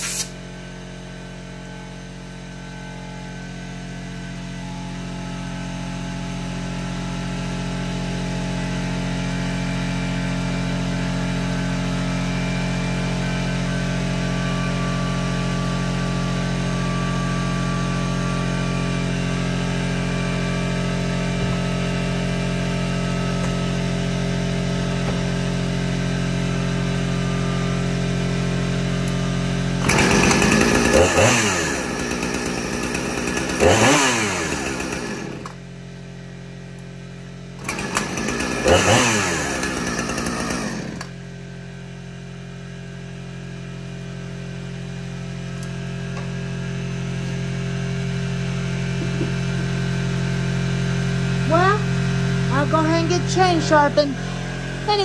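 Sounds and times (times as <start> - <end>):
chainsaw idling and revving: 5.0 - 35.8, 36.7 - 43.1, 44.6 - 55.0.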